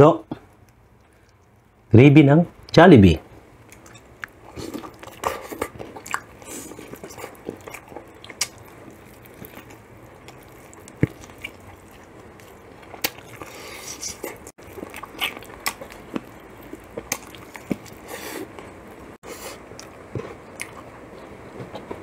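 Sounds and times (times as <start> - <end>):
person chewing crunchy fried chicken: 3.7 - 21.9.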